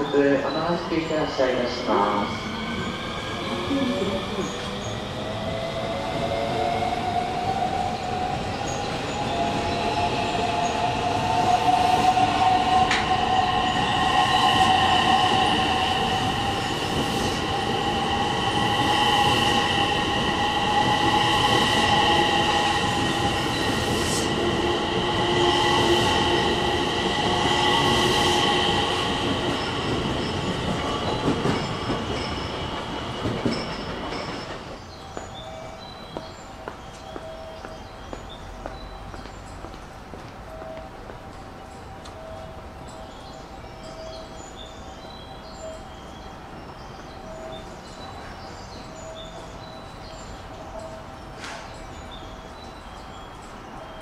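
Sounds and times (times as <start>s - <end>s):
wheels rumbling and clicking on rail: 0.6s - 54.0s.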